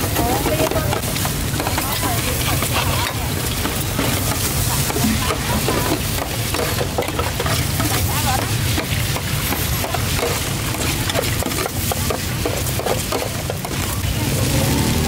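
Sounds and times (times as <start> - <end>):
noodles sizzling on a griddle: 0.0 - 15.0.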